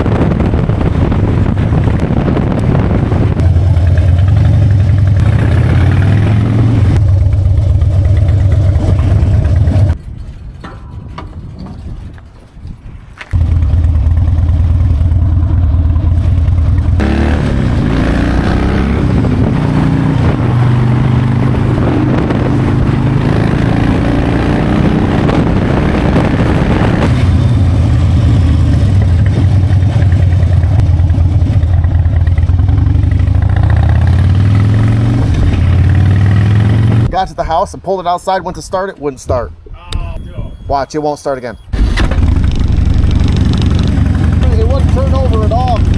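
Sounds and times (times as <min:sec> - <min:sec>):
motorcycle engine running: 0:00.0 - 0:10.2, 0:13.3 - 0:37.1, 0:41.6 - 0:45.9
wind noise: 0:00.0 - 0:37.7, 0:38.4 - 0:45.9.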